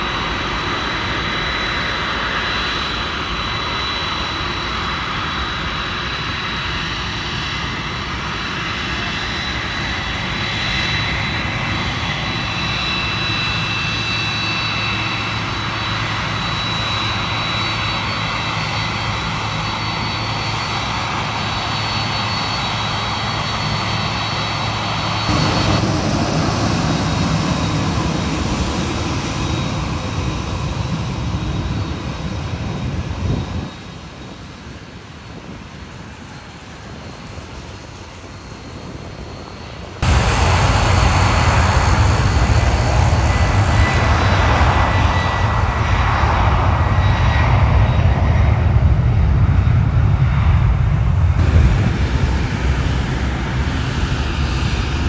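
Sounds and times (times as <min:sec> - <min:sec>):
jet engines at high power: 0:00.0 - 0:55.0.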